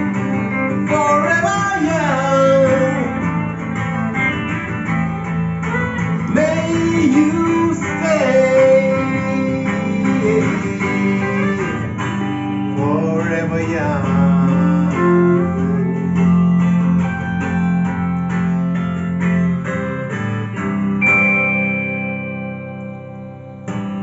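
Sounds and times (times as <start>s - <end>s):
electric guitar lead: 0.0s - 24.0s
rhythm guitar accompaniment: 0.0s - 24.0s.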